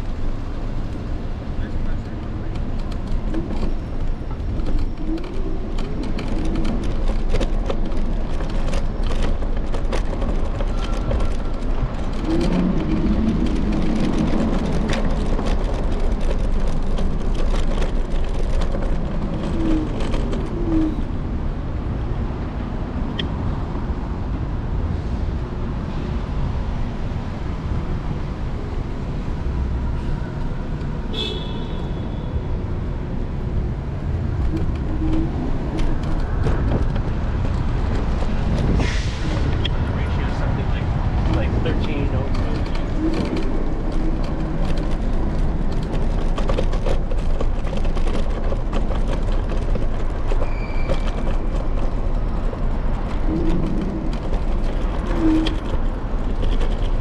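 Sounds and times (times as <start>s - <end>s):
passing car traffic: 0.0s - 57.0s
wind and road noise rumble: 0.0s - 57.0s.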